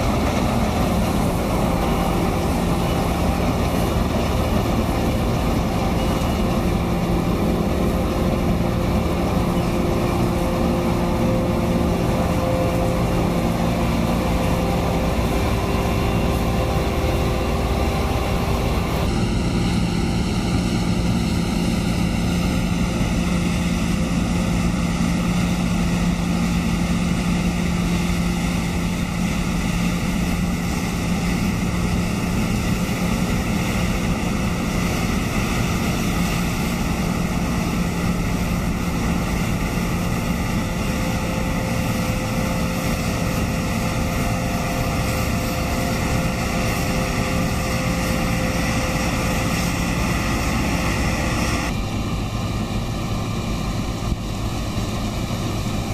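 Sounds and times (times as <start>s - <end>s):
combine harvester droning: 0.0s - 55.9s.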